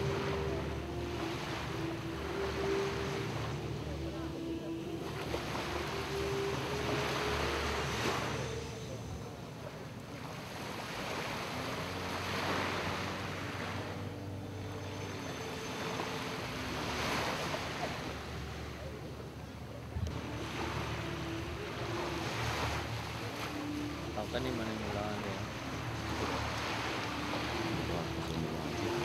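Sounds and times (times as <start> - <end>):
boat engine humming: 0.0 - 29.0
rushing wind and water: 0.0 - 29.0.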